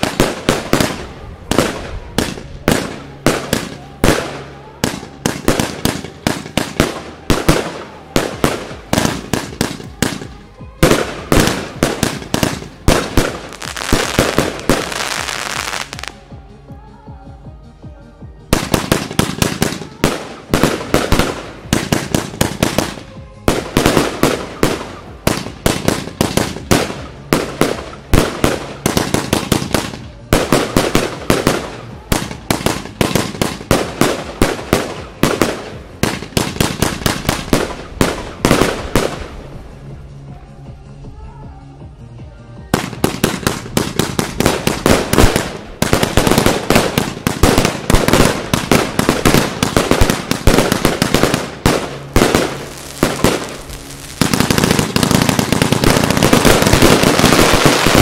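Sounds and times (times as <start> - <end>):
fireworks firing rapid volleys: 0.0 - 16.3, 18.5 - 39.6, 42.7 - 58.0
faint music: 0.0 - 58.0.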